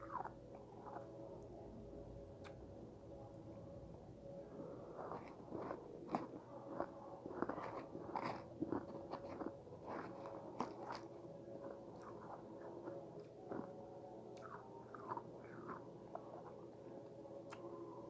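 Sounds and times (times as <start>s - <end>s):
chewing and crunching frost: 0.0s - 1.4s, 4.6s - 18.0s
faint steady hum: 0.0s - 18.0s.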